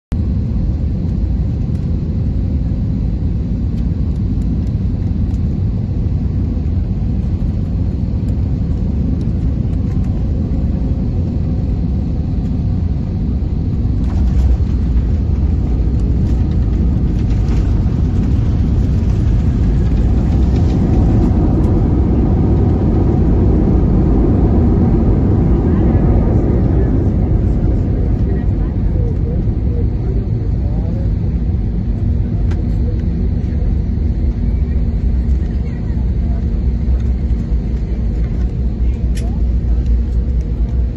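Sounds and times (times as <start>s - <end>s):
airliner cabin rumble: 0.1s - 40.9s.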